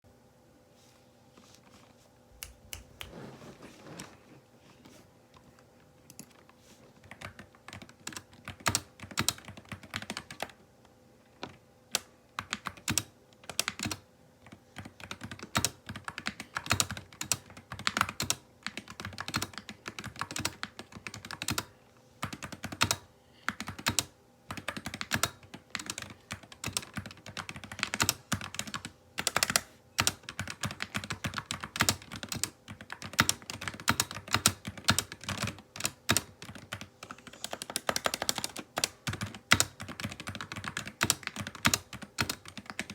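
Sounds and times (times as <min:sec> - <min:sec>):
mechanical keyboard typing: 0:07.0 - 0:10.6, 0:11.4 - 0:42.9.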